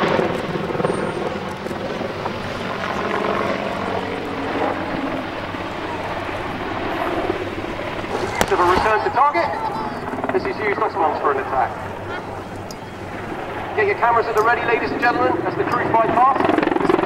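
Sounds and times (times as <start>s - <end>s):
helicopter flying overhead: 0.0s - 17.0s.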